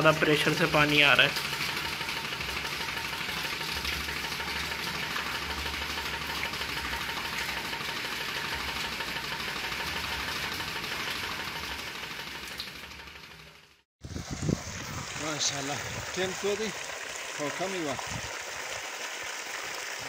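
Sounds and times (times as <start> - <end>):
electric pump humming: 0.0 - 20.0
water pouring into a tank: 0.0 - 20.0.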